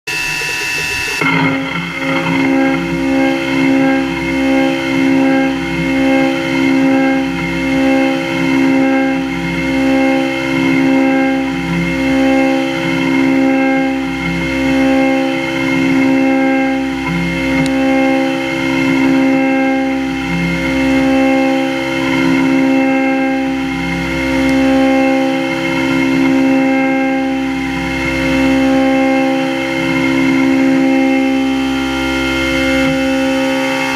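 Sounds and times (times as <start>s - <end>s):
milling machine cutting whine: 0.1s - 33.9s.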